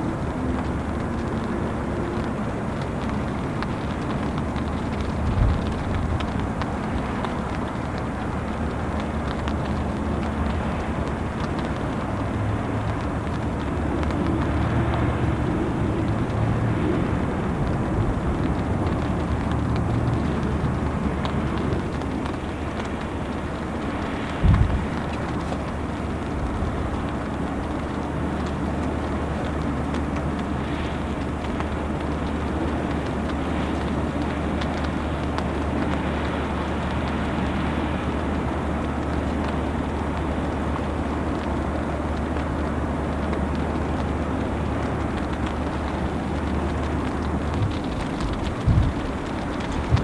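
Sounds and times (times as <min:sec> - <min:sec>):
heavy rain falling: 0:00.0 - 0:50.0
sharp drip ticks: 0:00.0 - 0:50.0
steady low hum: 0:00.0 - 0:50.0.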